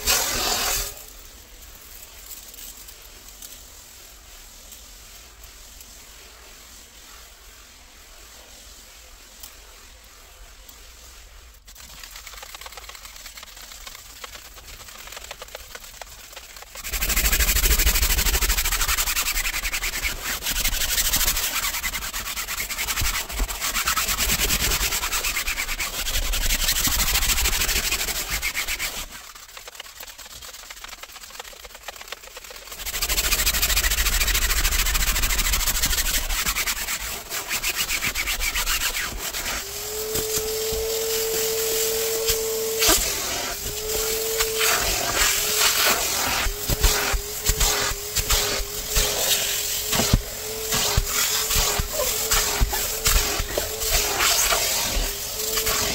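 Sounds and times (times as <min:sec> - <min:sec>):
brush scrubbing fabric seat: 0:00.0 - 0:55.9.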